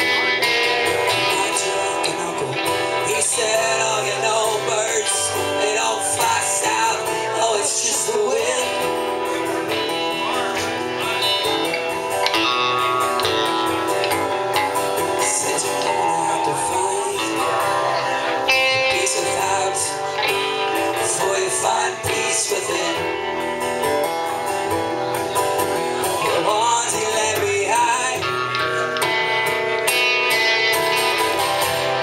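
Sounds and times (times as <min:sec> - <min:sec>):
acoustic guitar strumming: 0:00.0 - 0:32.0
electric guitar lead lines: 0:00.0 - 0:32.0.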